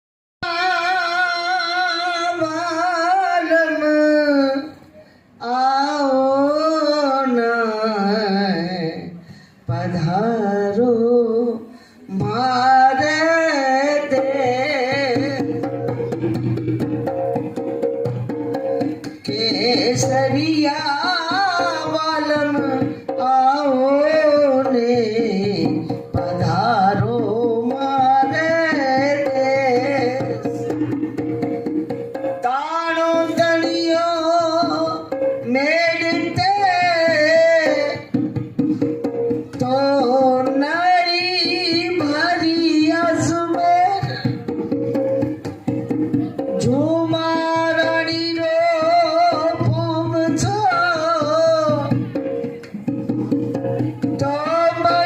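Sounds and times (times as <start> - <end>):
dholak drum: 0.4 - 55.0.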